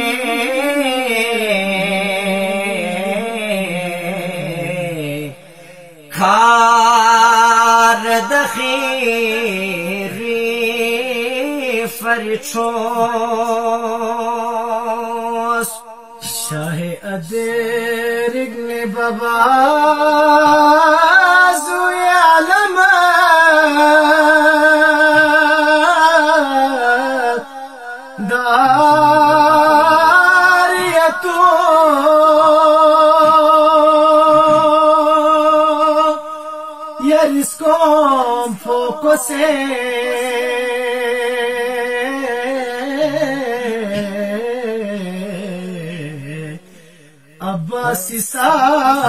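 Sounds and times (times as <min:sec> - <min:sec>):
man singing unaccompanied: 0:00.0 - 0:49.0.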